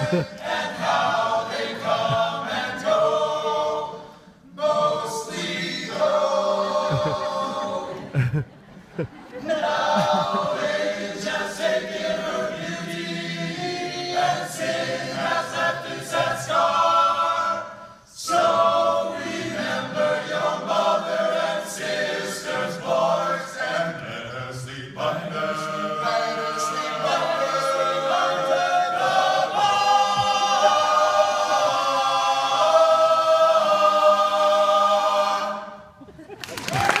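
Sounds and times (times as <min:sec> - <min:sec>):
male a cappella group singing: 0:00.0 - 0:08.2, 0:09.4 - 0:36.0.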